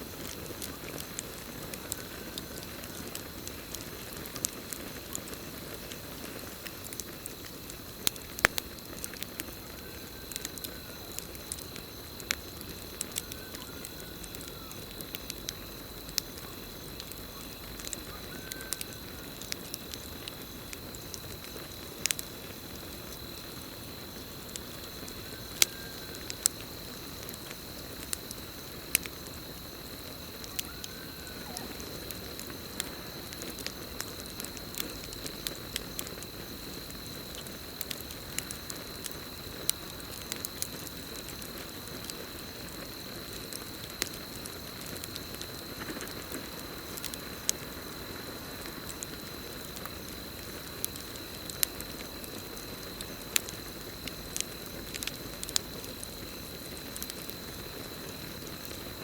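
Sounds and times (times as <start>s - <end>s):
campfire crackling and popping: 0.0s - 59.0s
cricket trill: 0.0s - 59.0s.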